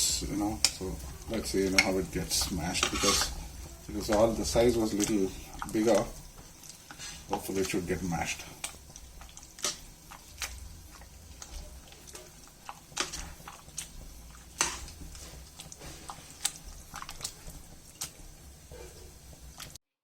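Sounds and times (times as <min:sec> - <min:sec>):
vegetables squishing being mashed: 0:00.0 - 0:19.8.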